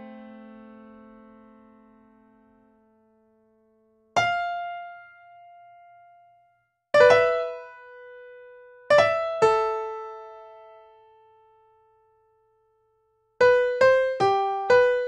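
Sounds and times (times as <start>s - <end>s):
slow piano chords: 0.0s - 12.4s.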